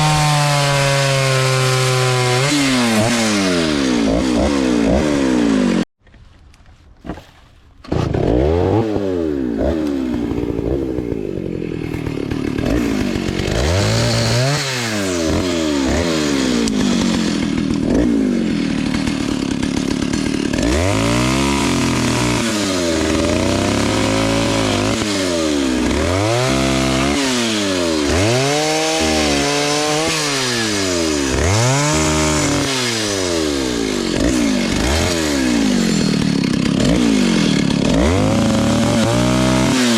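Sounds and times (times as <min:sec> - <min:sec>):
chainsaw cutting wood: 0:00.0 - 0:05.9, 0:07.0 - 0:39.9
chainsaw revving: 0:00.0 - 0:05.9, 0:07.8 - 0:39.9.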